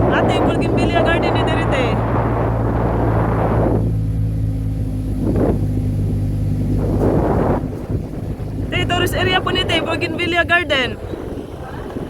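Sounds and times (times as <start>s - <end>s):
motorcycle engine humming: 0.0s - 12.0s
wind rushing over microphone: 0.0s - 12.0s.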